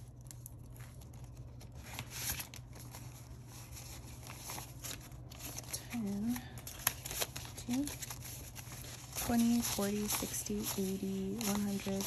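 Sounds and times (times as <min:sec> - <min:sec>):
paper bills rustling: 0:00.0 - 0:12.0.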